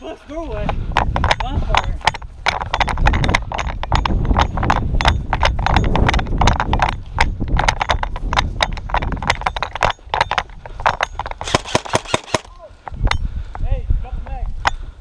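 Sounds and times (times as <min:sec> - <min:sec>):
quick footsteps: 0:00.4 - 0:13.7.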